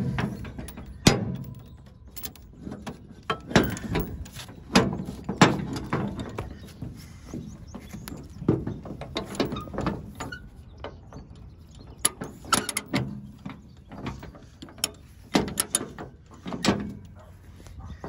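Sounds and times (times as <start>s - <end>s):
metal chain clinking and rattling: 0.0s - 17.4s.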